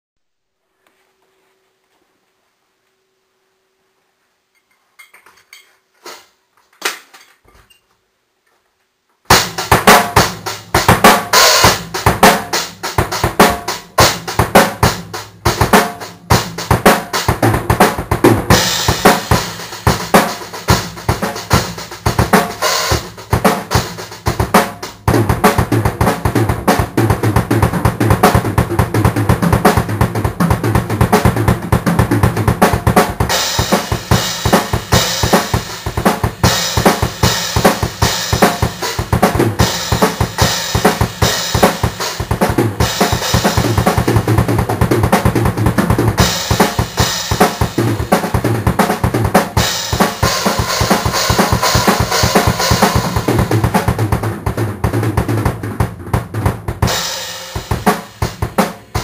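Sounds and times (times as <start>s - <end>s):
drum solo: 9.3s - 59.0s.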